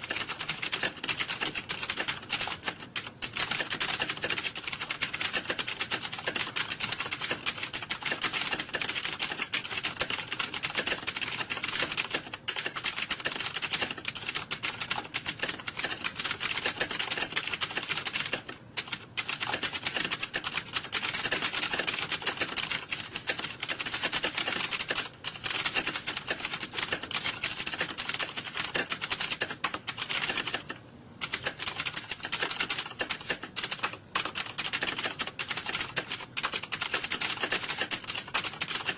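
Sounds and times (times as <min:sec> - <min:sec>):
fast keyboard typing: 0:00.0 - 0:38.9.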